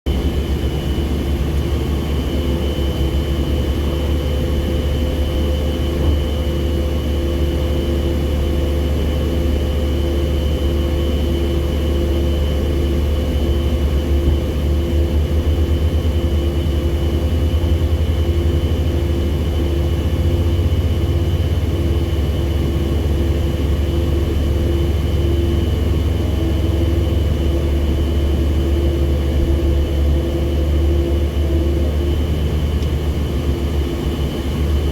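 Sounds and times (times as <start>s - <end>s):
diesel engine drone: 0.1s - 34.9s.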